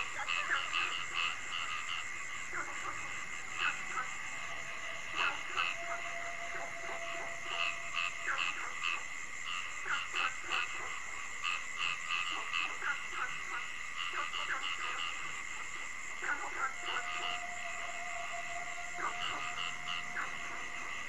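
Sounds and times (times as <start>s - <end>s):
crickets droning: 0.0s - 21.0s
frogs croaking: 0.0s - 21.0s.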